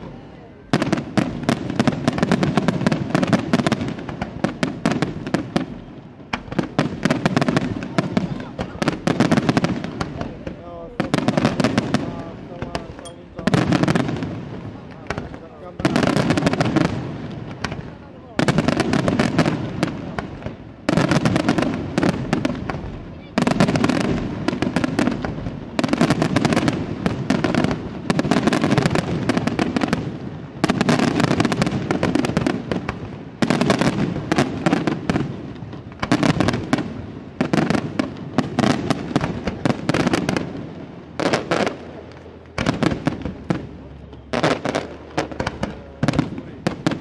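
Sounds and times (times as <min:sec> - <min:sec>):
firework crackling: 0:00.0 - 0:47.0.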